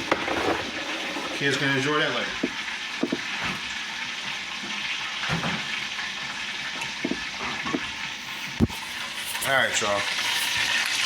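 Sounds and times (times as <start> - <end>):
oil sizzling in a pot: 0.2 - 11.0.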